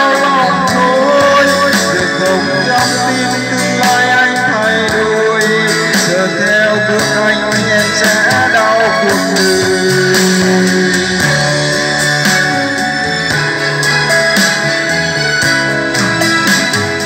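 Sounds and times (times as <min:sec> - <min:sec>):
song with singing and guitar: 0:00.0 - 0:17.0.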